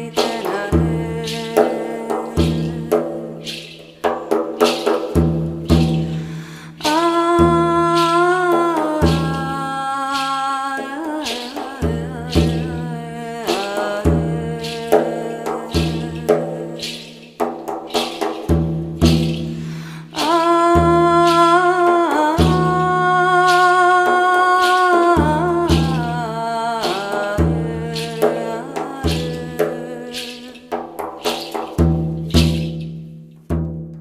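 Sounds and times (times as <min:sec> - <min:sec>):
steady drum beat: 0:00.0 - 0:09.6, 0:11.6 - 0:34.0.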